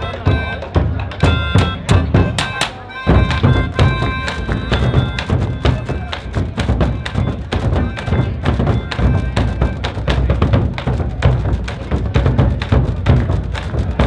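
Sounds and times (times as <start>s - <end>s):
deep drum beat: 0.0s - 14.0s
many drums beating fast rhythm: 0.0s - 14.0s.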